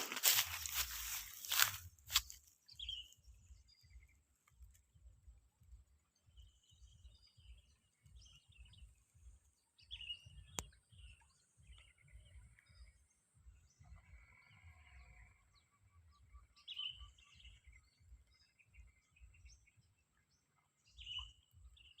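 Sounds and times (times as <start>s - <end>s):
small birds chirping: 0.0s - 14.3s, 15.2s - 22.0s.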